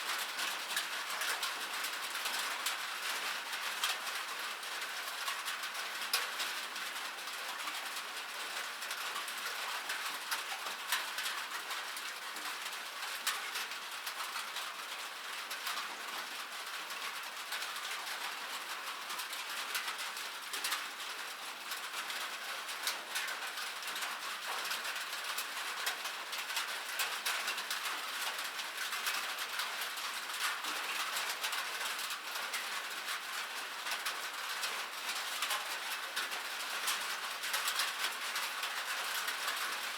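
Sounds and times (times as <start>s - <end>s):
rain on a metal surface: 0.0s - 39.9s.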